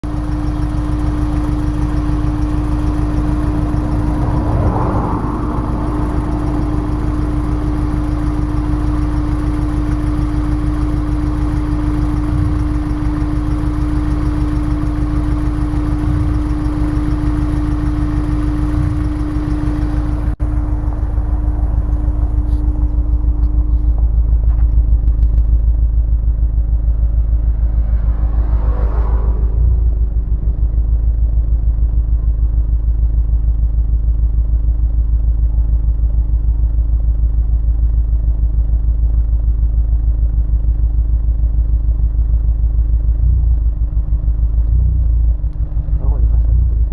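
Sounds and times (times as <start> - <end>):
steady hum: 0.0 - 34.1, 42.3 - 46.9
engine running with a misfire: 0.0 - 46.9.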